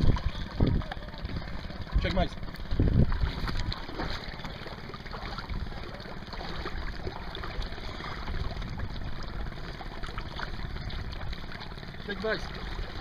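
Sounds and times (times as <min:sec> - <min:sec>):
wind rumble on microphone: 0:00.0 - 0:04.6, 0:05.2 - 0:11.6
water sloshing and splashing: 0:00.0 - 0:13.0.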